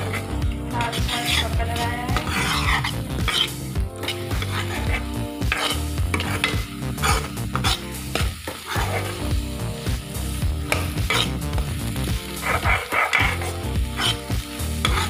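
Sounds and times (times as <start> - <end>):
eggs sizzling: 0.0 - 15.0
spatula scraping frying pan: 0.0 - 15.0.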